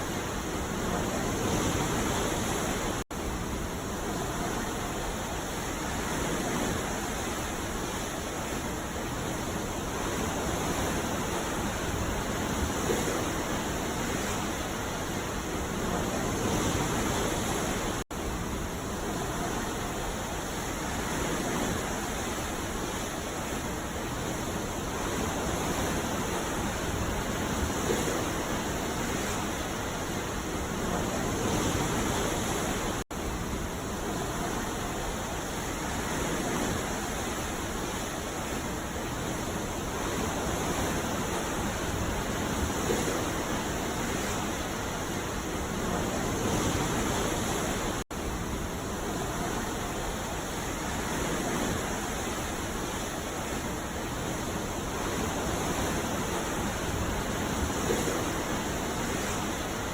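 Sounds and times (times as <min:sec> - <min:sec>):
ocean waves washing on beach: 0:00.0 - 0:59.9.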